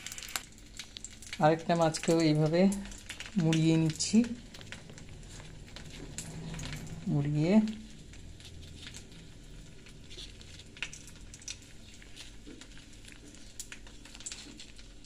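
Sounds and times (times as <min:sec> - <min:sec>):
banana leaf crinkling: 0:00.0 - 0:15.0.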